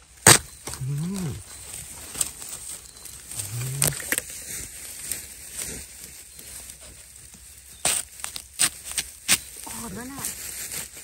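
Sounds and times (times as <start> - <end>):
leaf litter rustling: 0.8 - 11.0.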